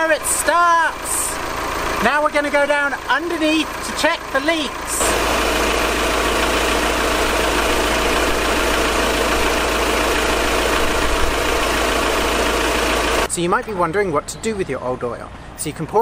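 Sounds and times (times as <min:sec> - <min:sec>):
diesel engine idling: 0:00.0 - 0:13.3.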